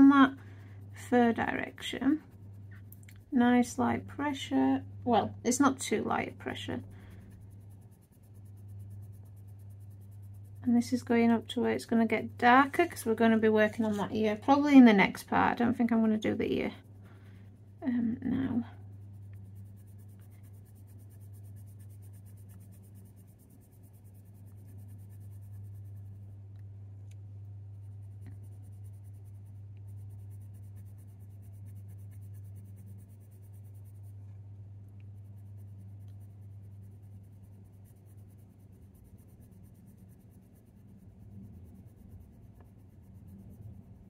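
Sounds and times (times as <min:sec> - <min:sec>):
pencil scratching on paper: 0:00.0 - 0:26.4, 0:27.4 - 0:44.0
steady low hum: 0:00.0 - 0:44.0.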